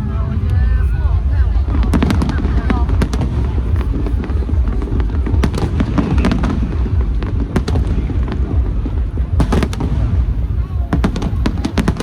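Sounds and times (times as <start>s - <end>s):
deep rumble of fireworks bursts: 0.0s - 12.0s
sharp firework cracks: 1.9s - 12.0s.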